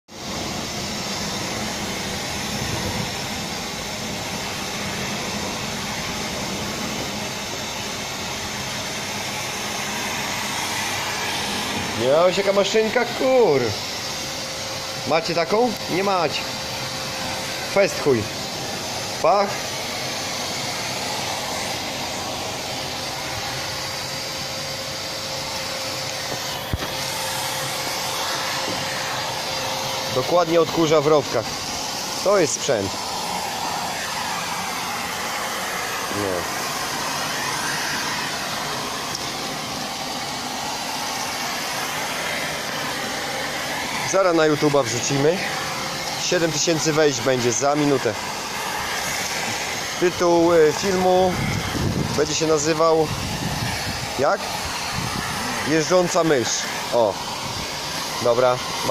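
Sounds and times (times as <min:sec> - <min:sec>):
nozzle sucking along wooden decking: 0:00.1 - 0:58.9
vacuum cleaner running: 0:00.1 - 0:58.9.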